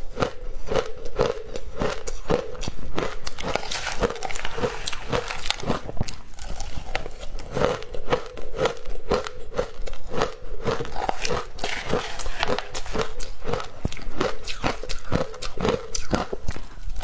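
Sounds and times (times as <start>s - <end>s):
crunching shaved ice: 0.2s - 17.0s.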